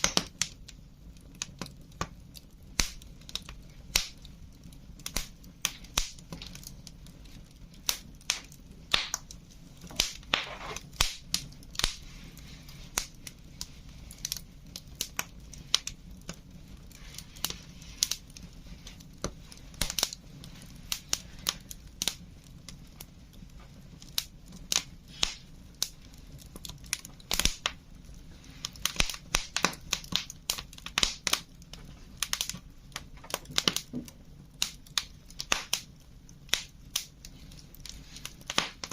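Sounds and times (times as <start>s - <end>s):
fire hissing: 0.0s - 38.9s
wood fire crackling: 0.0s - 38.9s.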